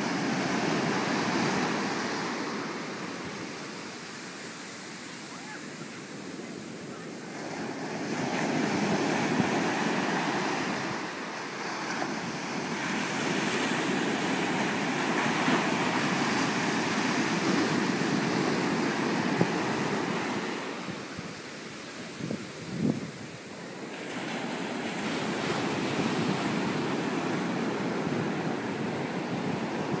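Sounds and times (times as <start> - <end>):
small waves breaking on sand: 0.0 - 30.0.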